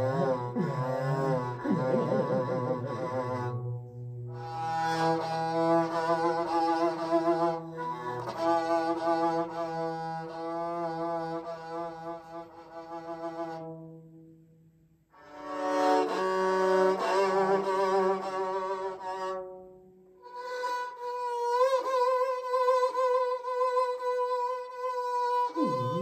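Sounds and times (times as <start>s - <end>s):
bowed string instrument: 0.0s - 14.5s, 15.1s - 26.0s.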